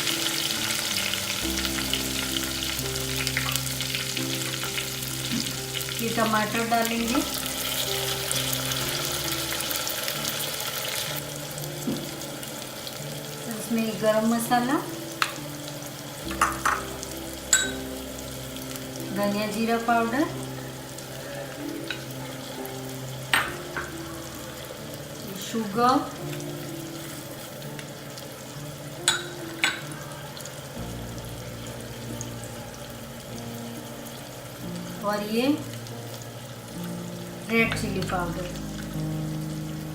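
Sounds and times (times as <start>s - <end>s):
tomatoes sizzling in hot oil: 0.0s - 39.9s.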